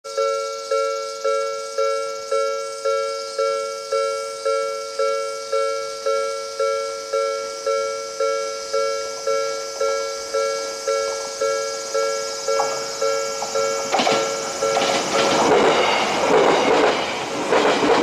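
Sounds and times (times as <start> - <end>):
level crossing alarm chime: 0.0 - 15.0.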